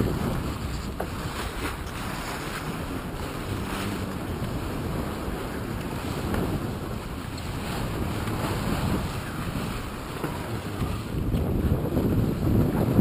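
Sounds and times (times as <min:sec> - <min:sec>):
sea water rushing along hull: 0:00.0 - 0:13.0
wind buffeting microphone: 0:00.0 - 0:13.0.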